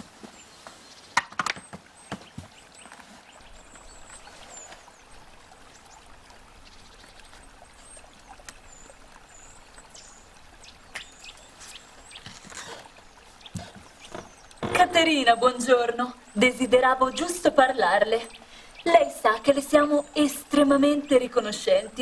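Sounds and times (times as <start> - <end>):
trickling water hiss: 1.9 - 22.0.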